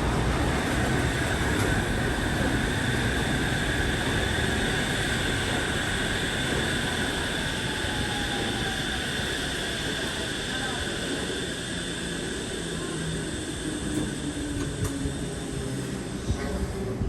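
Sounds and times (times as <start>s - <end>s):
electric train motor whine: 0.0s - 16.7s.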